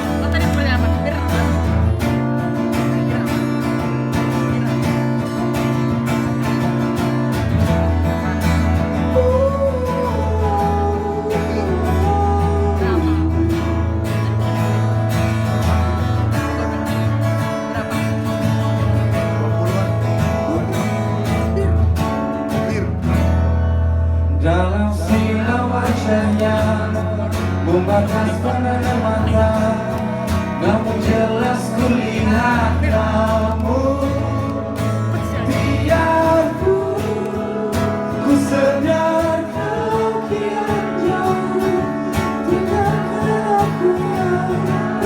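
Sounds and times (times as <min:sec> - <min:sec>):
strummed acoustic guitar chords: 0:00.0 - 0:45.0.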